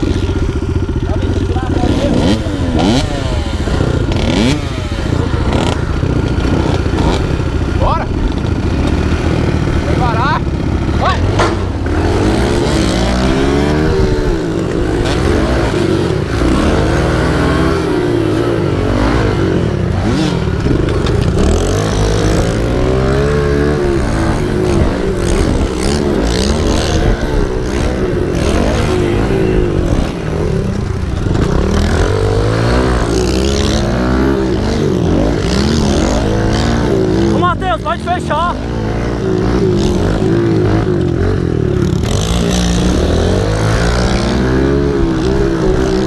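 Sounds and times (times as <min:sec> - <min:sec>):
small motorbike engine revving: 0:00.0 - 0:46.0.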